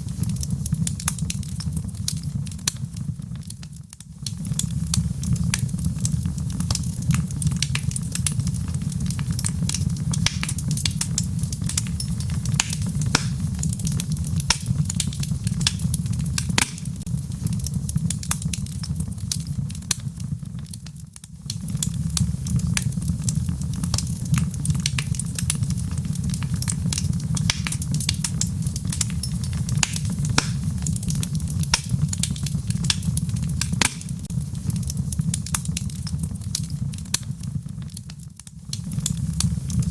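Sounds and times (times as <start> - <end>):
fire rumbling with crackles: 0.0 - 39.9.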